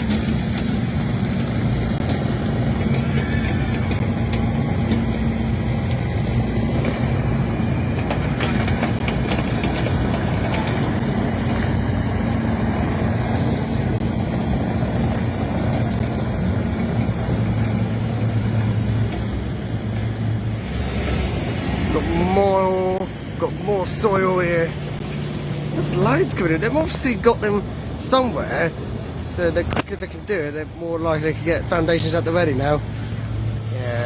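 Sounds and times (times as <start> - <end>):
diesel engines humming: 0.0 - 34.0.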